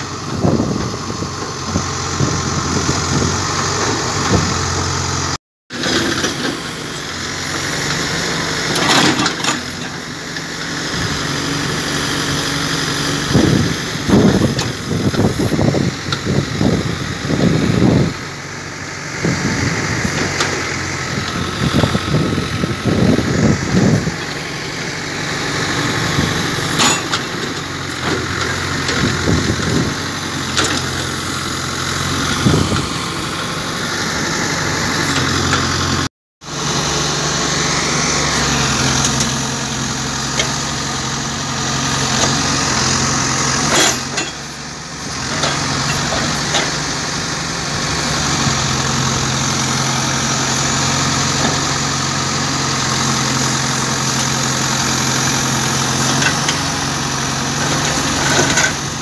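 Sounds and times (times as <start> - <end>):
backhoe digging soil: 0.0 - 59.0
diesel engine running: 0.0 - 59.0.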